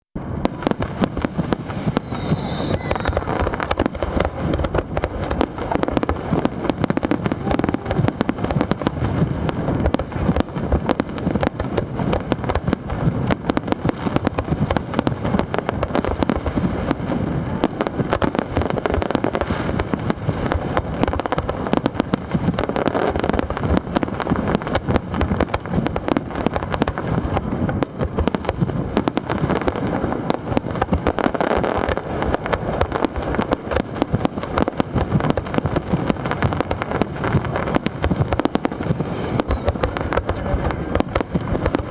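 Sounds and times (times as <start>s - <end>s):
fireworks bangs and crackling: 0.1s - 41.9s.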